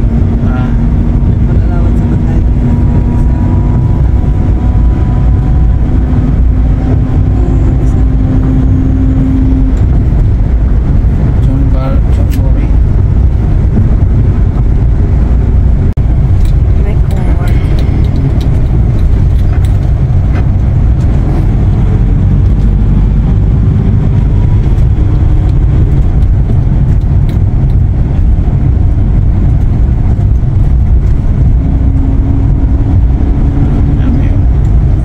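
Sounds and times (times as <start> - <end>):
engine and road rumble in cabin: 0.0 - 35.0.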